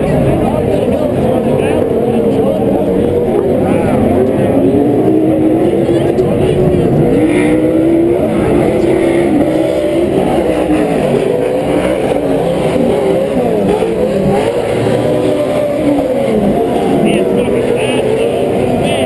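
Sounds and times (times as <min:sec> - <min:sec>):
race truck engines revving: 0:00.0 - 0:19.0.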